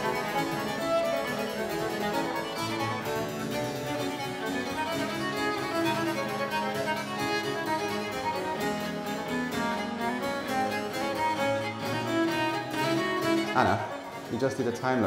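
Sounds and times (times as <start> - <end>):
harpsichord: 0.0 - 15.0
violin playing: 0.0 - 15.0.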